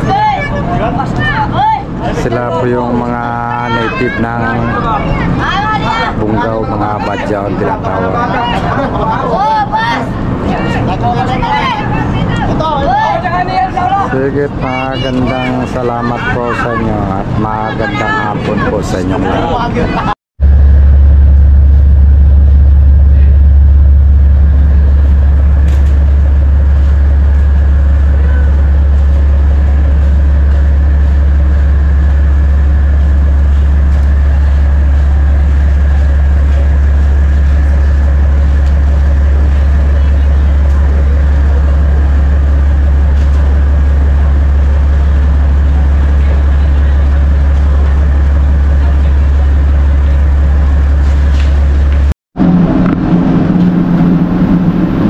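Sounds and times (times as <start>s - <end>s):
ferry engine low drone: 0.0s - 55.0s.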